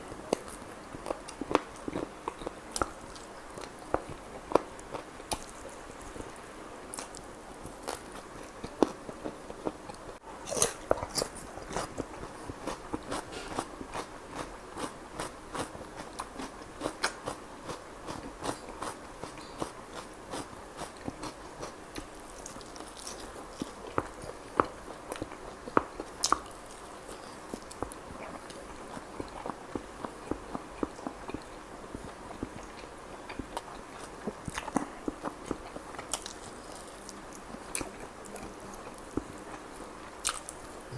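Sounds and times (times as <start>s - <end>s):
person chewing with mouth clicks: 0.2s - 40.9s.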